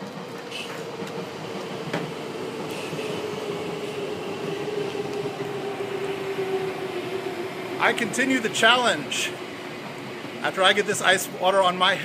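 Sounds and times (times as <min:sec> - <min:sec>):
low rumble: 0:00.0 - 0:11.3
machine hum: 0:00.0 - 0:11.7.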